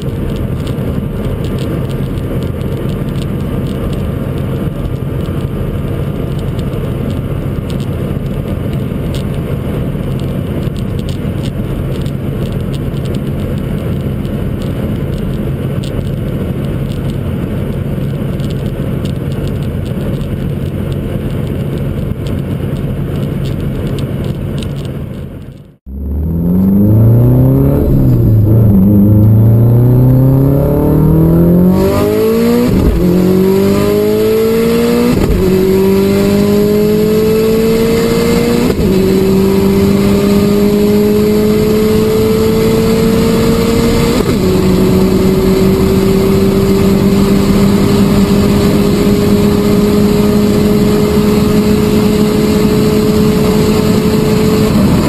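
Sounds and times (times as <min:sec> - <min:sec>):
car engine droning inside car: 0:00.0 - 0:55.0
sports car accelerating with upshifts: 0:00.0 - 0:55.0.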